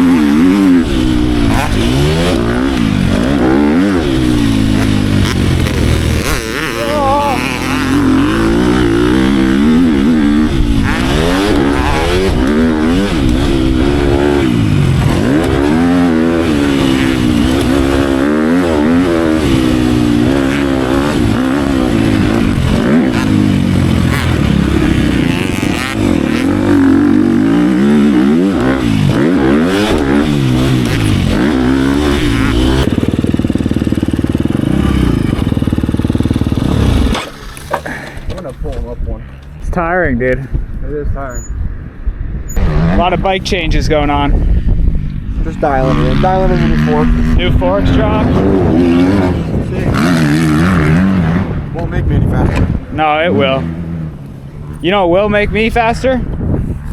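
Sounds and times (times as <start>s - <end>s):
dirt bike engine revving: 0.0s - 40.2s, 42.4s - 56.9s.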